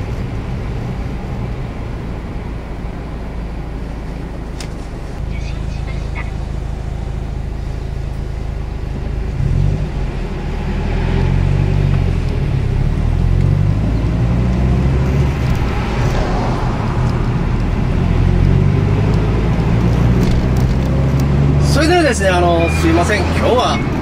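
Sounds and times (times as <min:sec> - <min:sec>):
car engine from inside cabin: 0:00.0 - 0:24.0.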